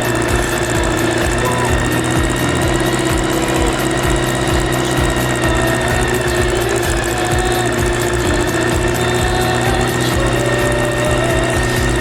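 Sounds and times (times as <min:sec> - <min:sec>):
motor running with high whine: 0:00.0 - 0:12.0.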